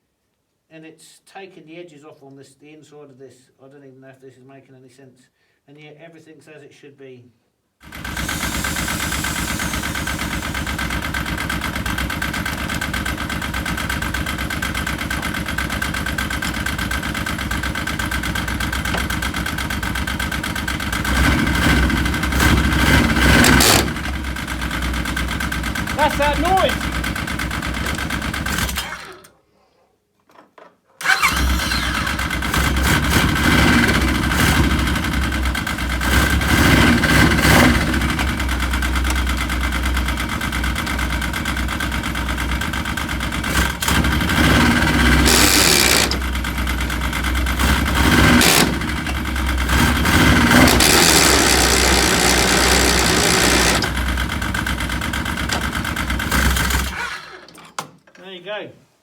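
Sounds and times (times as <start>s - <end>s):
drivetrain grinding: 7.8s - 29.2s, 31.0s - 57.7s
snowmobile engine starting and revving: 7.8s - 29.3s, 31.0s - 57.6s.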